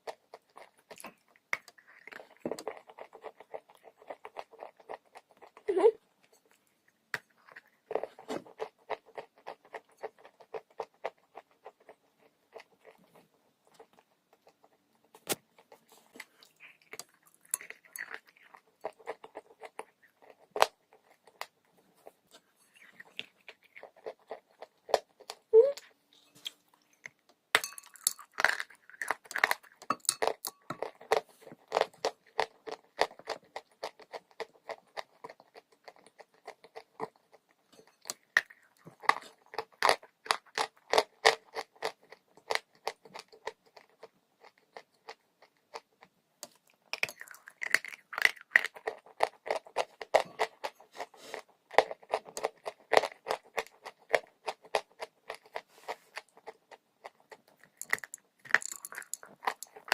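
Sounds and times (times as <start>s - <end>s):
chalk crunching while chewed: 0.0s - 5.7s, 6.4s - 25.5s, 26.4s - 59.9s.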